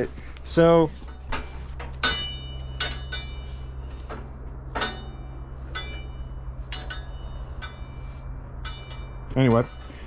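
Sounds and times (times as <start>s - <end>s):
steady low hum: 0.0s - 10.0s
light metallic clinks: 1.0s - 10.0s.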